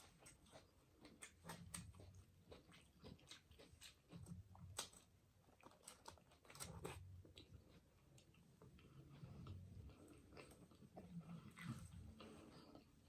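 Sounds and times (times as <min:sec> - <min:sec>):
wet chewing with lip smacks: 0:00.0 - 0:13.0.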